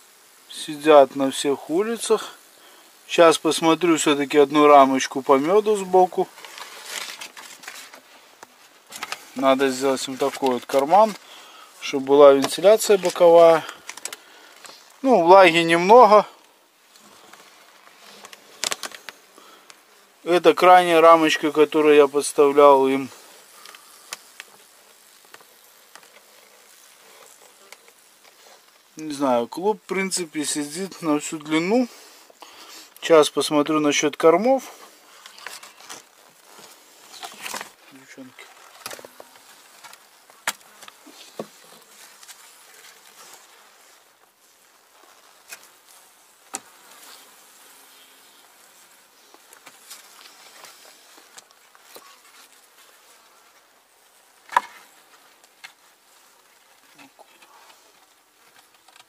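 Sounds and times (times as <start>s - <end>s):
honeybee colony humming: 0.0s - 59.0s.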